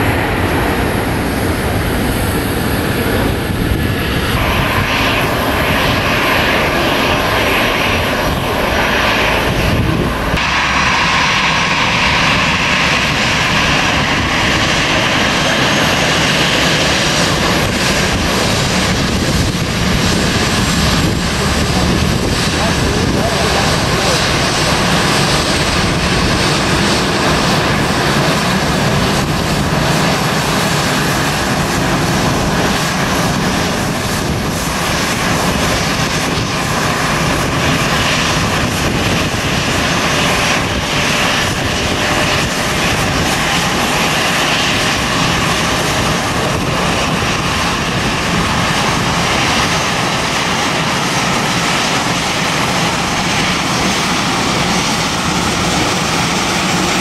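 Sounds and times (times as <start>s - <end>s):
jet engines rushing with faint whine: 0.0s - 57.0s.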